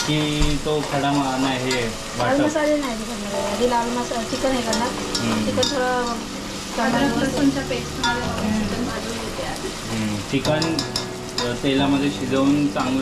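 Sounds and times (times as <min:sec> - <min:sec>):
frying sizzle: 0:00.0 - 0:13.0
melody: 0:01.3 - 0:13.0.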